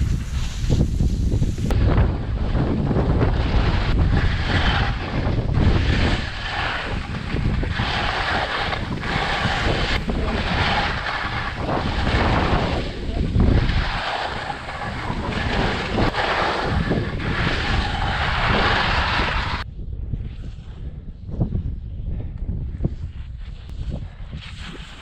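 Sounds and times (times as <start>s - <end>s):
skis scraping through snow: 0.0s - 19.6s, 23.0s - 25.0s
wind buffeting microphone: 0.0s - 25.0s.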